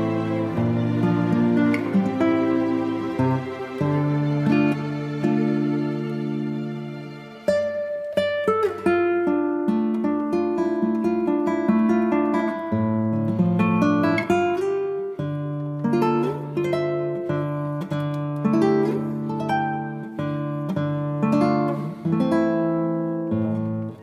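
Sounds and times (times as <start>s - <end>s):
plucked acoustic guitar music: 0.0s - 24.0s.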